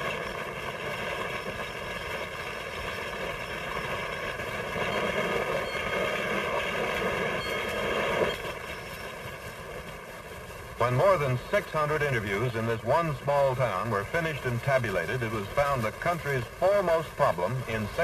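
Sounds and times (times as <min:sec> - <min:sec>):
factory machinery rumble: 0:00.0 - 0:18.0
steady machine tones: 0:00.0 - 0:18.0.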